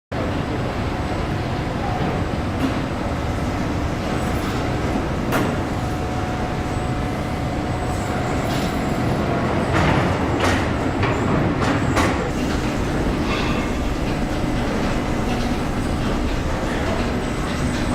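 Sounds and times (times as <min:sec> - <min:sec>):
assembly-line machinery humming: 0:01.8 - 0:17.9.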